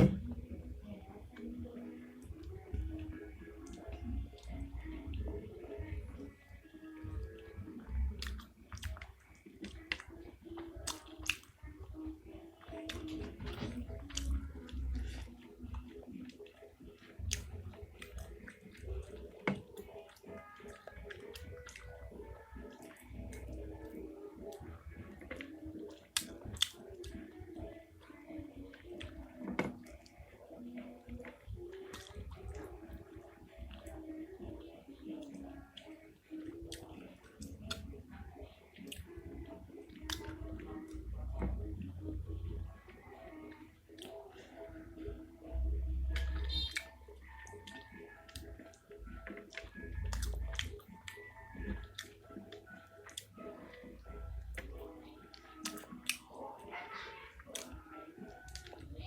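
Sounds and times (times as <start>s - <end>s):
close chewing with wet smacks: 0.8s - 59.0s.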